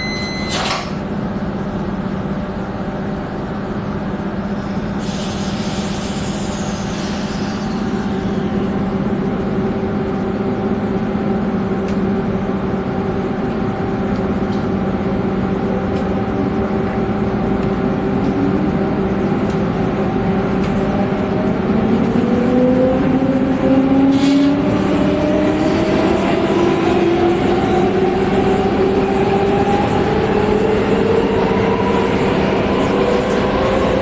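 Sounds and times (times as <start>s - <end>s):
electric train humming: 0.0s - 34.0s
rising train whine: 0.0s - 34.0s.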